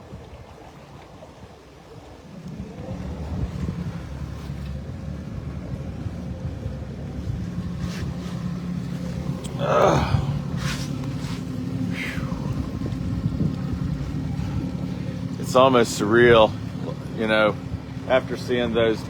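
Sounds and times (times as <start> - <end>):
wind on microphone: 0.0 - 16.6
boat engine droning: 0.0 - 19.0.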